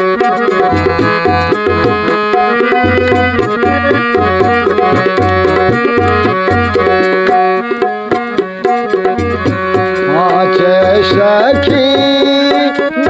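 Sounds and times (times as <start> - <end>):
hand drum rhythm: 0.0 - 13.0
sustained melodic instrument: 0.0 - 13.0.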